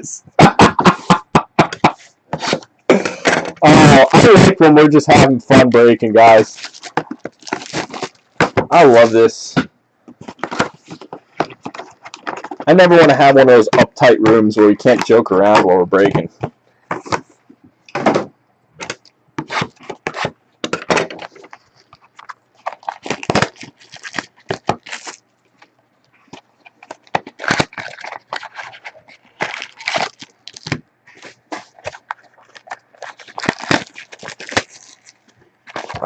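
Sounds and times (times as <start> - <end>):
cards and packaging rustling: 1.6 - 18.2, 18.8 - 36.0.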